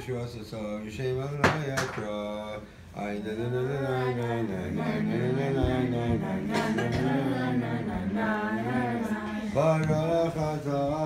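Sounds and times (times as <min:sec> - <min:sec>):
people singing together: 0:01.5 - 0:11.0.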